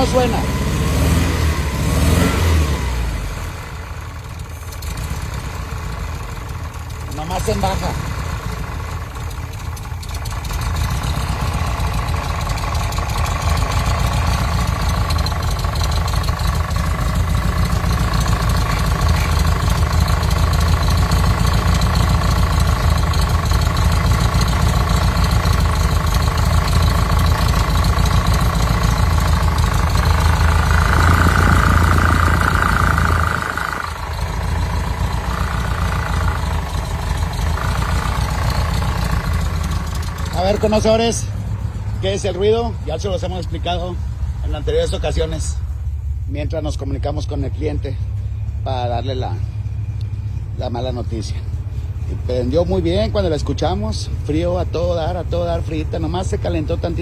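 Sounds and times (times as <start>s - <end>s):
air-cooled engine idling: 0.0s - 57.0s.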